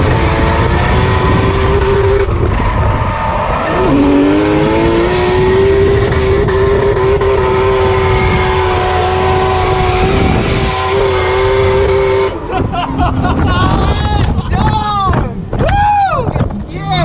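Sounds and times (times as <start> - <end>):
car engine at high revs: 0.0 - 14.4.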